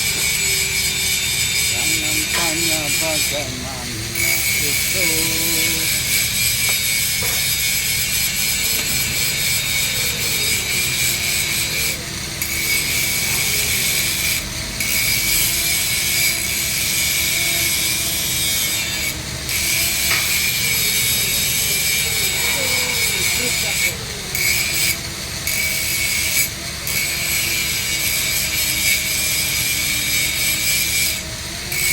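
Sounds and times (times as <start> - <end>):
arc welding crackle: 0.0 - 31.9.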